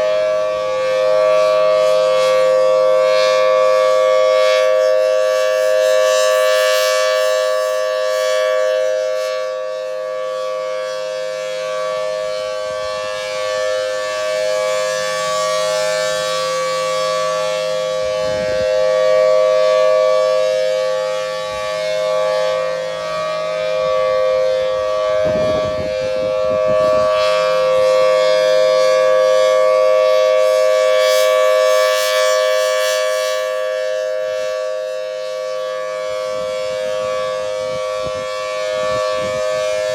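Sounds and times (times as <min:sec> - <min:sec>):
rotating warning siren tone: 0:00.0 - 0:39.9.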